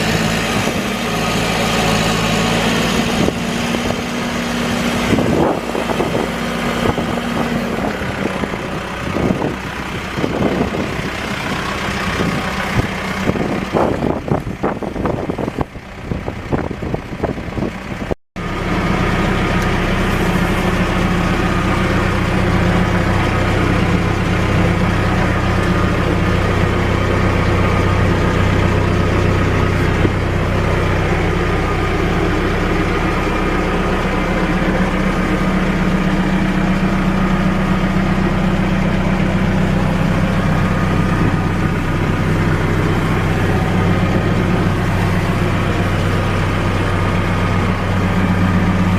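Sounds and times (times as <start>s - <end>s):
backhoe diesel engine idling: 0.0s - 48.9s.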